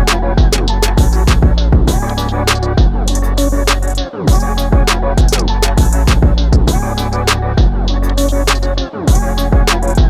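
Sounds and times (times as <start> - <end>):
electronic hip-hop music: 0.0 - 10.0.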